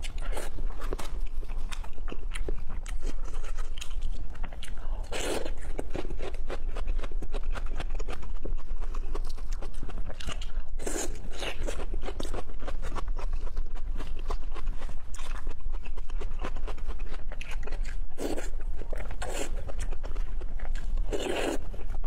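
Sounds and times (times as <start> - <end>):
person chewing with wet crunches: 0.0 - 22.0.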